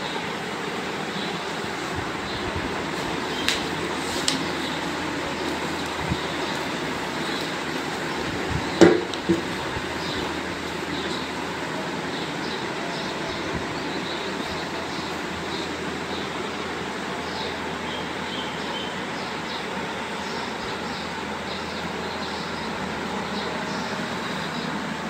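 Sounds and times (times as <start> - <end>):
background hiss and rumble: 0.0 - 25.0.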